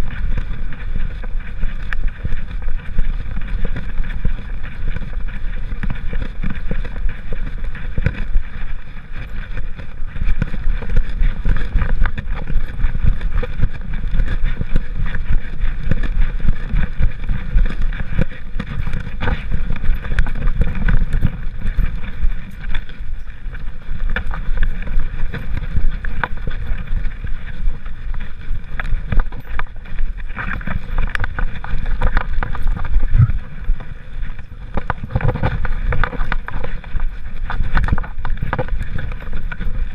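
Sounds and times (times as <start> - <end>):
camera rumbling and rubbing: 0.0 - 39.9
wind on microphone: 0.0 - 39.9.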